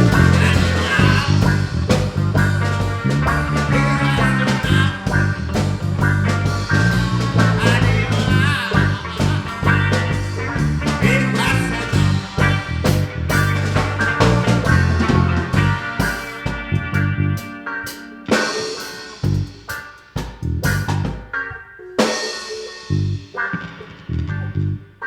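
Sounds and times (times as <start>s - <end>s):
bass: 0.0s - 25.0s
drum kit: 0.0s - 25.0s
guitar: 0.0s - 25.0s.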